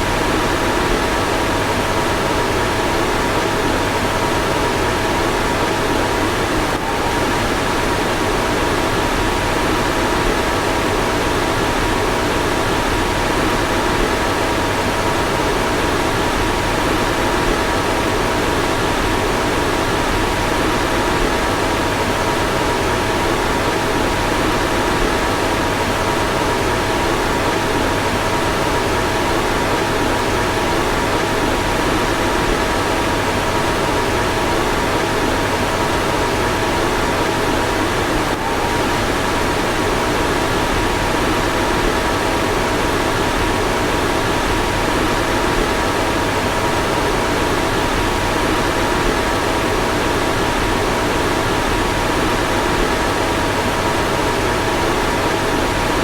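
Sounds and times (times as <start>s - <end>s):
ventilation fan blowing air: 0.0s - 56.0s.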